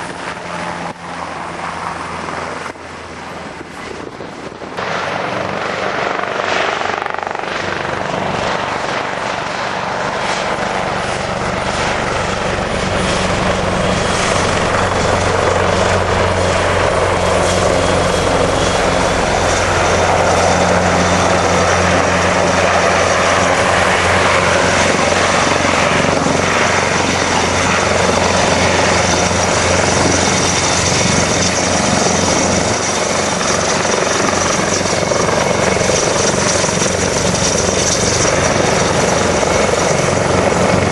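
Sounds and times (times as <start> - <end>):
helicopter turbine and rotor: 0.0 - 40.9.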